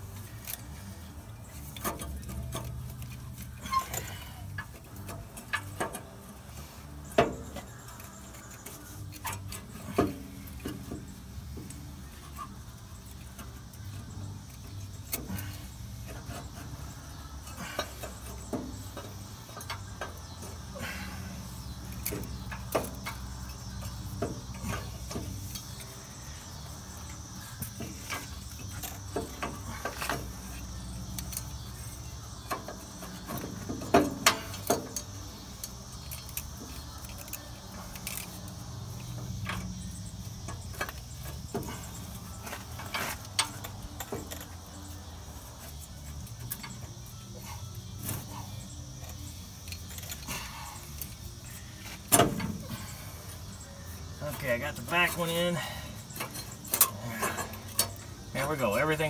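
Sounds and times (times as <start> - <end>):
metallic clinks and knocks: 0.1 - 59.0.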